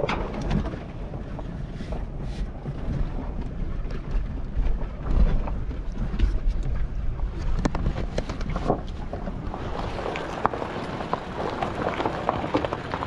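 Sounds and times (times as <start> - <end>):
engine and tyres rumbling: 0.0 - 13.0
wind noise: 0.0 - 13.0.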